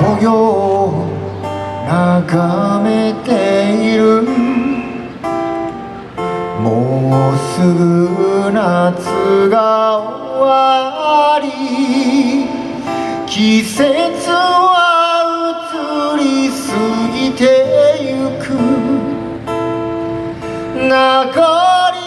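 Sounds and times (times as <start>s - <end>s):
man singing a slow ballad: 0.0s - 5.2s, 6.6s - 19.5s, 20.4s - 22.0s
strummed acoustic guitar: 0.0s - 22.0s.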